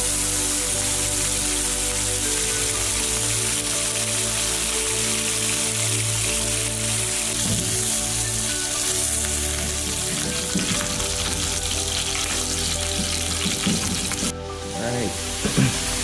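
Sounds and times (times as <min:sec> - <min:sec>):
fish sizzling in oil: 0:00.0 - 0:14.3, 0:15.1 - 0:16.0
background music: 0:00.0 - 0:16.0.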